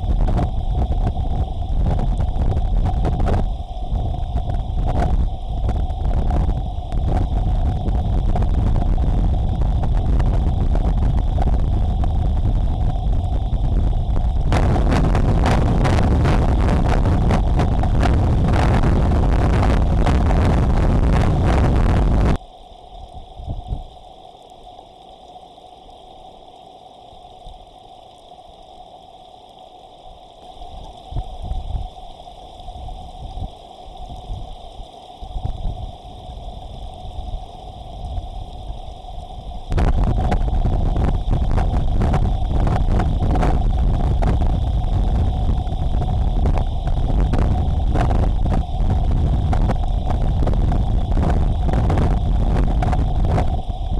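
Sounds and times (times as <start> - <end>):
wind gusts: 0.0 - 24.1, 30.4 - 53.9
faint steady hum: 0.0 - 53.9
wind and heavy rain roar: 0.0 - 53.9.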